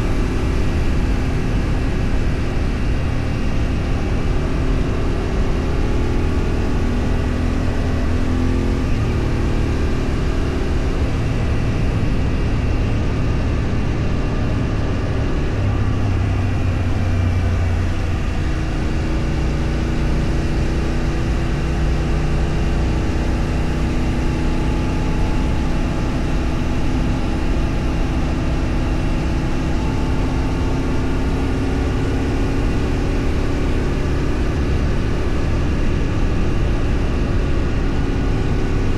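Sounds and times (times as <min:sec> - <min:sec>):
vehicle engine running: 0:00.0 - 0:38.9
wind and road noise: 0:00.0 - 0:38.9.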